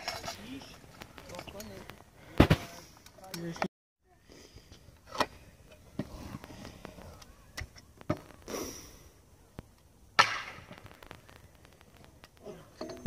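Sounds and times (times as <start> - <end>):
scooter wheels rolling on concrete: 0.0 - 3.7, 4.7 - 8.5, 9.5 - 13.0.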